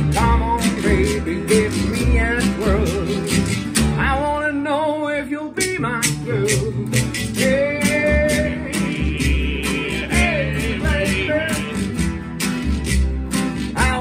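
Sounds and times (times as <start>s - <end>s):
man singing: 0.0s - 12.2s, 13.7s - 14.0s
plucked double bass: 0.0s - 14.0s
strummed acoustic guitars: 0.0s - 14.0s.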